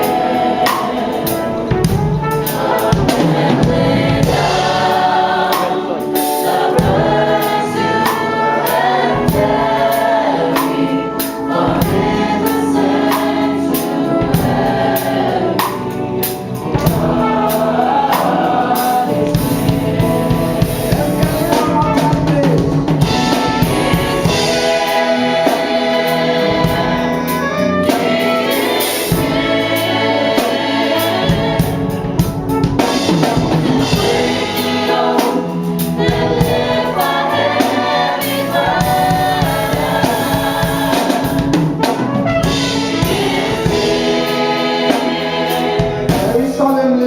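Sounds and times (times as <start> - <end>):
choir singing gospel song: 0.0 - 47.0
instrumental accompaniment: 0.0 - 47.0.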